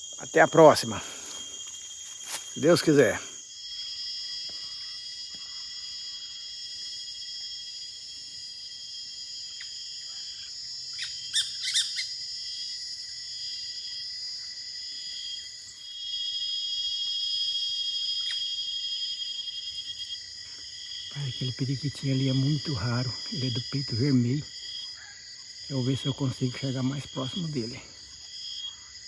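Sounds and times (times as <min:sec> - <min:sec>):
shrill insect chorus: 0:00.0 - 0:29.0.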